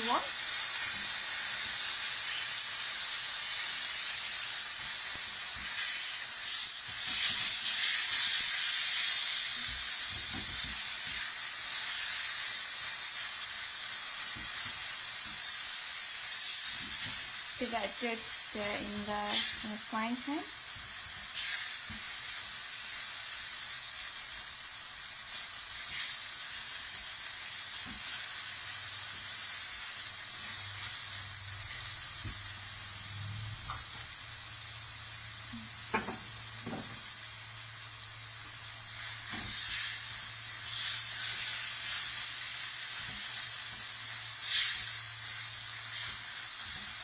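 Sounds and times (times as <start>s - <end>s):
onions sizzling in a frying pan: 0.0s - 47.0s.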